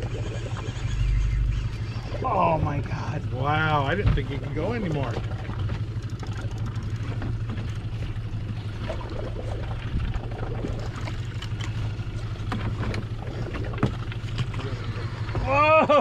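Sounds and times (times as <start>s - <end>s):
outboard motor humming: 0.0s - 16.0s
water noise: 0.0s - 16.0s
wind: 0.0s - 16.0s.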